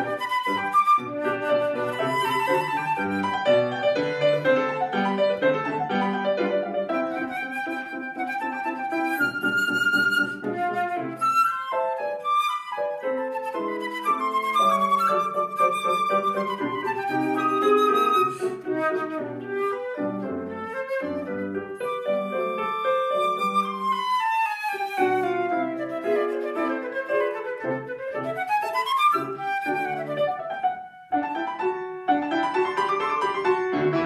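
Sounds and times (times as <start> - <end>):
flute melody: 0.0 - 34.0
piano accompaniment: 0.0 - 34.0.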